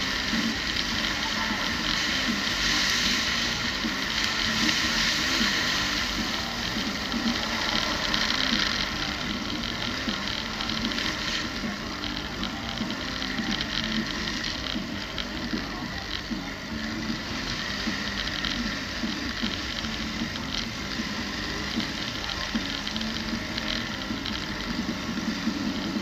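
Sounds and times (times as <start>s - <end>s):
vehicle engine driving slowly: 0.0s - 26.0s.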